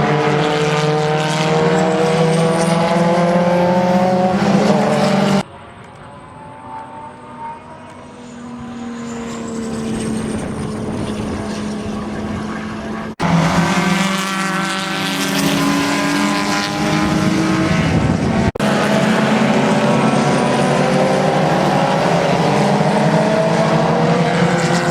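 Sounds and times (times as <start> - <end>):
race car engine: 0.0 - 24.9.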